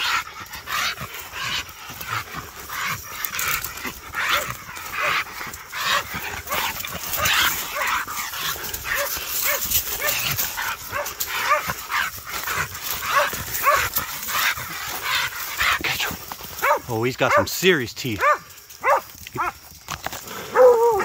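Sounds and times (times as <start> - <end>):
dogs barking: 0.0 - 19.7, 20.3 - 21.0.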